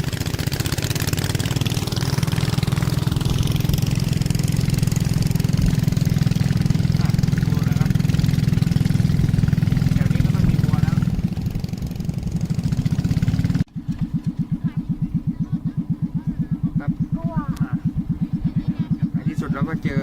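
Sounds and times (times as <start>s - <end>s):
boat engine pulsing: 0.0s - 20.0s.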